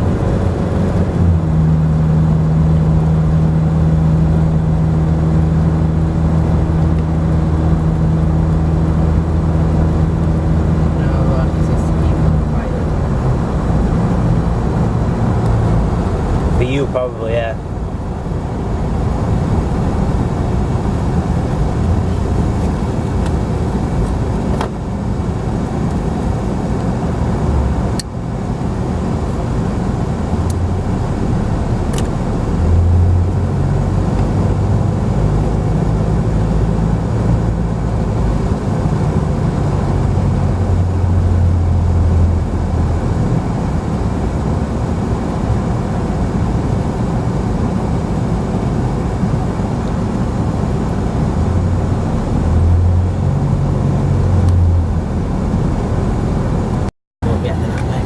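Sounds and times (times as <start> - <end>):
car engine hum: 0.0 - 58.0
road rumble: 0.0 - 58.0.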